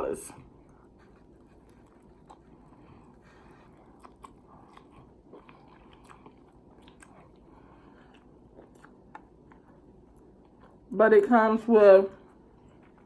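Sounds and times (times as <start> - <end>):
person chewing: 0.6 - 10.9, 12.3 - 13.0.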